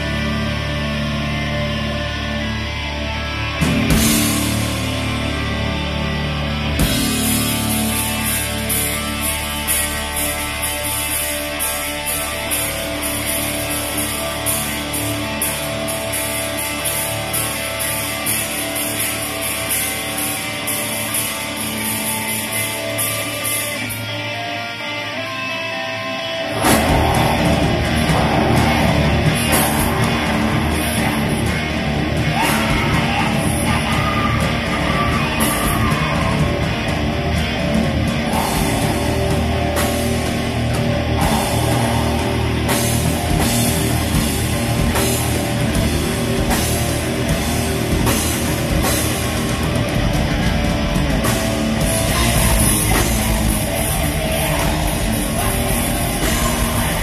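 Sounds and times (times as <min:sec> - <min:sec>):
drum kit: 0:00.0 - 0:24.1, 0:26.4 - 0:57.0
bass guitar: 0:00.0 - 0:57.0
distorted electric guitars: 0:00.0 - 0:57.0.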